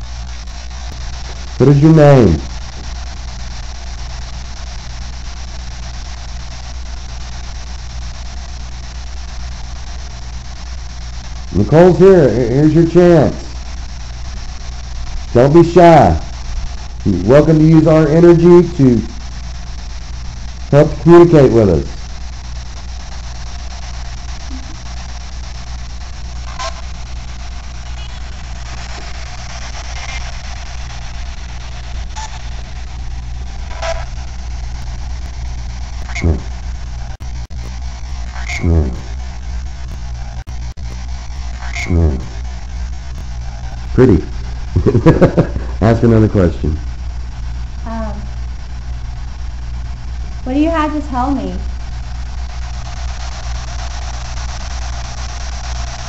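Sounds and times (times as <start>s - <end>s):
low hum: 0.0s - 56.0s
radio static hiss: 0.0s - 56.0s
snatches of radio sound: 0.0s - 56.0s.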